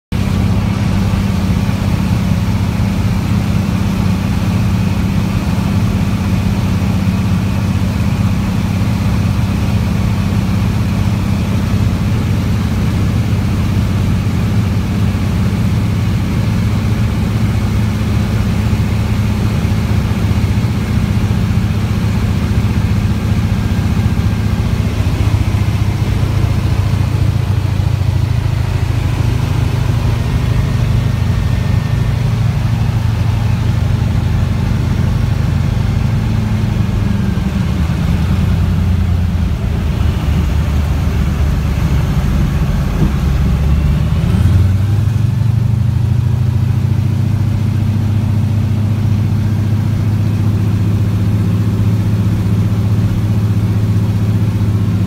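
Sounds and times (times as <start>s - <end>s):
propeller plane engine drone: 0.1s - 55.0s.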